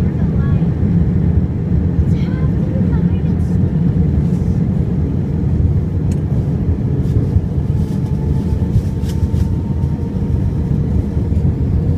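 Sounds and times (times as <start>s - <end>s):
airplane cabin rumble: 0.0s - 11.9s.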